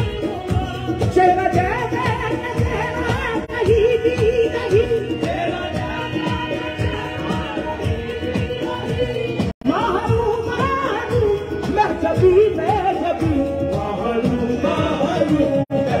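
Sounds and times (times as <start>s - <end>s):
tabla beat: 0.0s - 16.0s.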